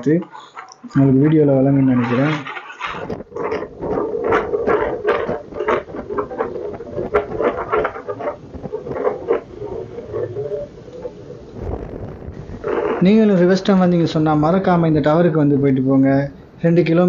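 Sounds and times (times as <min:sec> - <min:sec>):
wind buffeting microphone: 0:00.8 - 0:15.1.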